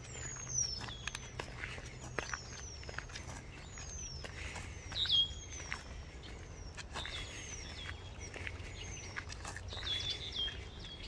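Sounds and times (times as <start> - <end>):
footsteps on gravel: 0.0 - 11.0.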